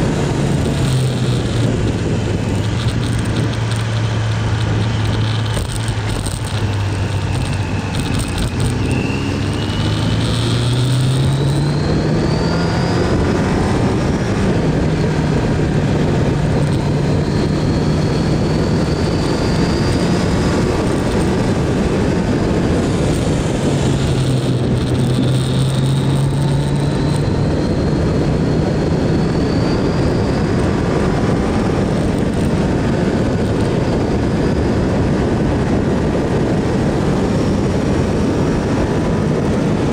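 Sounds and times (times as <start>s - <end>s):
motorcycle engine at road speed: 0.0s - 39.9s
wind rush on microphone: 0.0s - 39.9s.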